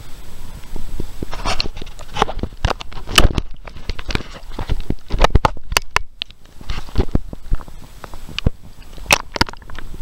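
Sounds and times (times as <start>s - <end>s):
water splashing against camera: 0.6s - 10.0s.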